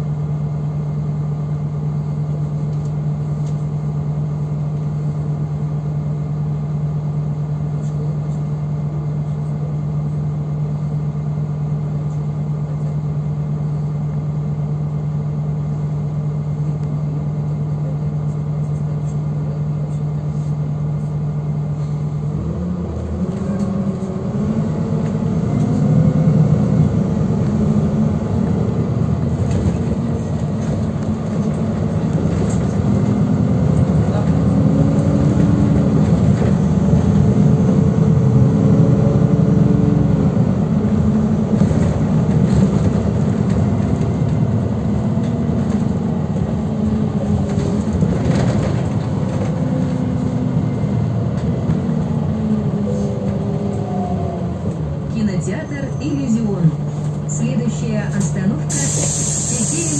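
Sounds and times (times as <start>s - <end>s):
bus accelerating: 0.0s - 59.9s
bus engine hum: 0.0s - 59.9s.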